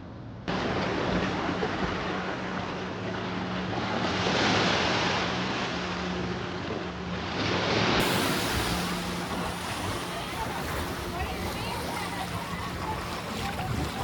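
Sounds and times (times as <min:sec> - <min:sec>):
waves breaking on a beach: 0:00.5 - 0:14.0.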